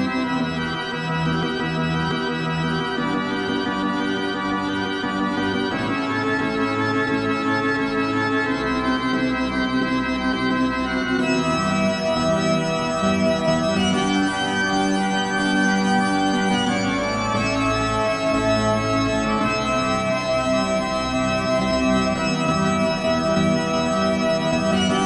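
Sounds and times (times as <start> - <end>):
organ-like keyboard chords: 0.0 - 25.0.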